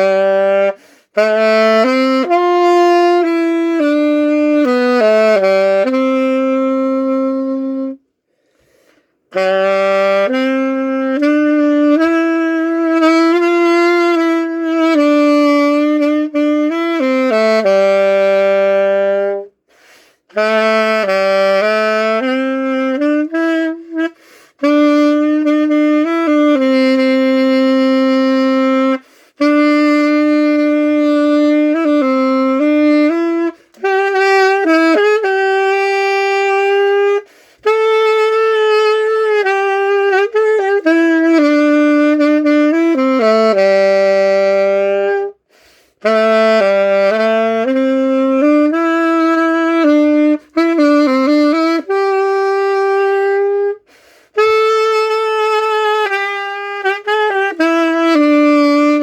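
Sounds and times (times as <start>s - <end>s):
saxophone slow solo melody: 0.0s - 59.0s.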